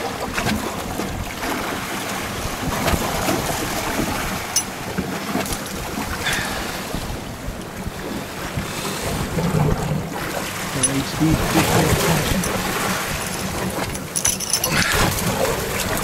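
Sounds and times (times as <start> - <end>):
sea water washing: 0.0 - 16.0
wind buffeting microphone: 0.2 - 16.0.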